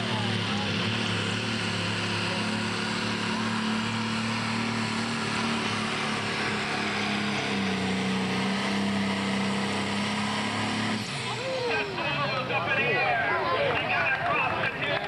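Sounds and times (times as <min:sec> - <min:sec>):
diesel engine droning under load: 0:00.0 - 0:15.0.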